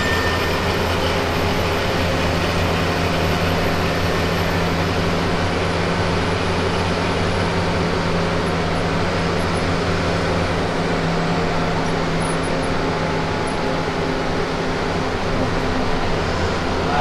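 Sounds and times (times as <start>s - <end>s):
bus engine drone: 0.0s - 17.0s
road and tyre noise: 0.0s - 17.0s.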